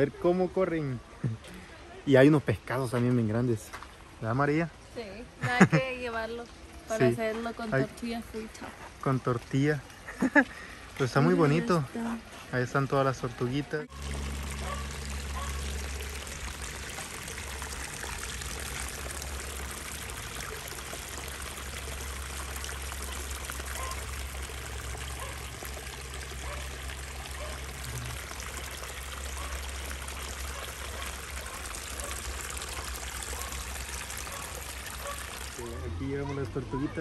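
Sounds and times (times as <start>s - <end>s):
water trickling into pond: 0.0s - 37.0s.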